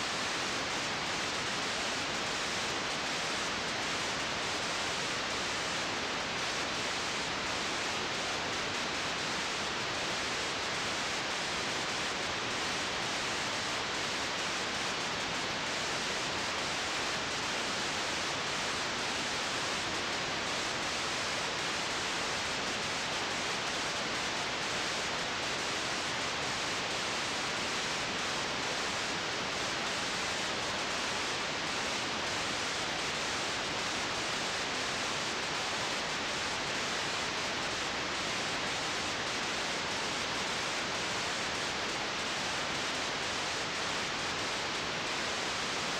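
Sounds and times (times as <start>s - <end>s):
recording hiss: 0.0s - 45.9s.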